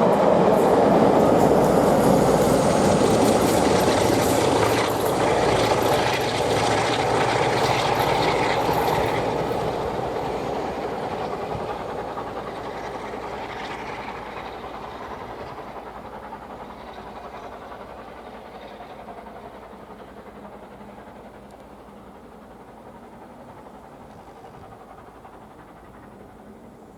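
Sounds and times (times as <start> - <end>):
train wheels clattering on rails: 0.0 - 26.9.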